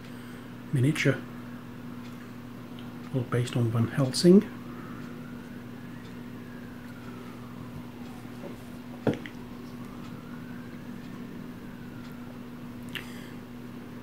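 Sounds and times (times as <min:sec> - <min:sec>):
faint whine: 0:00.0 - 0:14.0
low electrical hum: 0:00.0 - 0:14.0.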